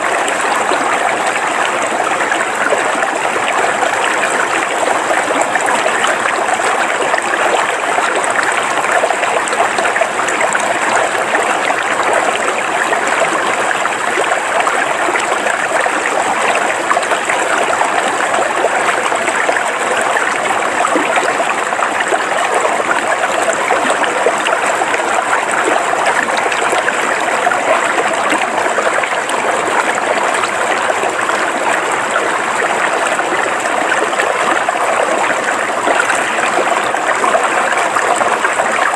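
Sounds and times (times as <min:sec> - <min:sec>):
river water flowing over rocks: 0:00.0 - 0:38.9.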